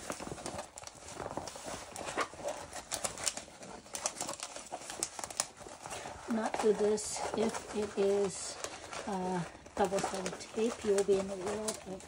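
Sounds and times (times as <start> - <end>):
stiff canvas rustling: 0.0 - 12.0.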